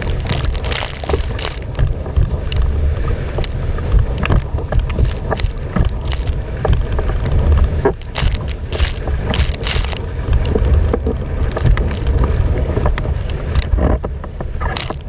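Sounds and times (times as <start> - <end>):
water slapping against board: 0.0 - 15.0
wind buffeting microphone: 0.0 - 15.0.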